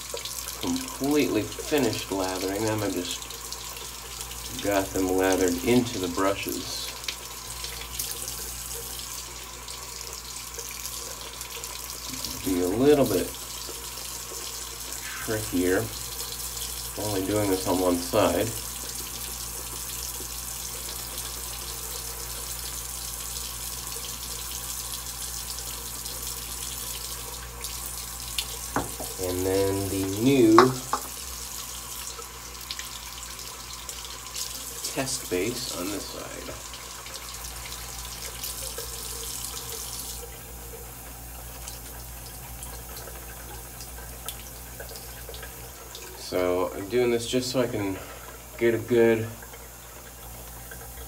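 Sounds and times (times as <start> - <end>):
shaving brush lathering soap: 0.0 - 51.0
water running from a tap: 0.0 - 51.0.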